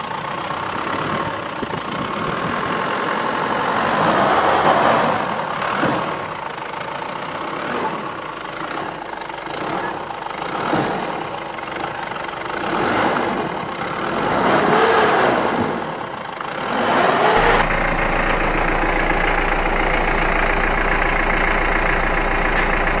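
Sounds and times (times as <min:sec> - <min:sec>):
vehicle engine revving and idling: 0:00.0 - 0:23.0.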